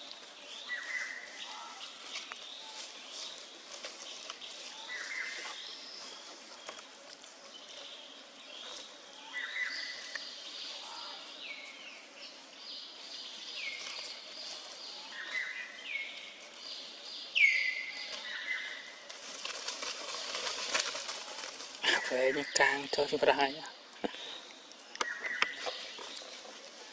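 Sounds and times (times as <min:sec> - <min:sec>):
steady outdoor hiss: 0:00.0 - 0:26.9.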